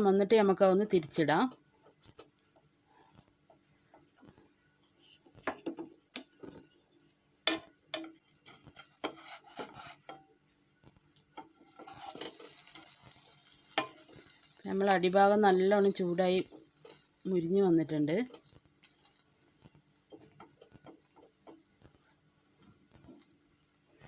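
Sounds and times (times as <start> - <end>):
spatula scraping frying pan: 1.0 - 23.8.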